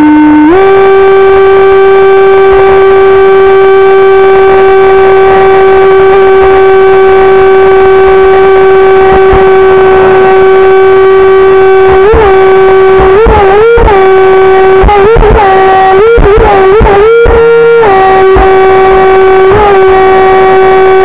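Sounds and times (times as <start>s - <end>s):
high-pitched motor whine: 0.0s - 21.0s.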